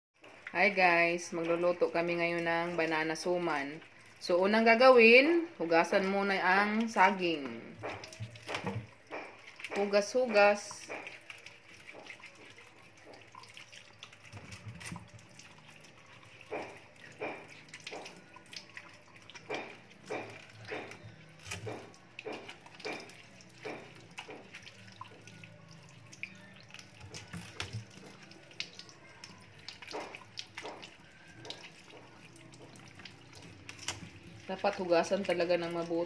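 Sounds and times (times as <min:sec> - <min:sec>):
hands scrubbing bananas: 0:00.2 - 0:36.0
tap water running into sink: 0:00.2 - 0:36.0.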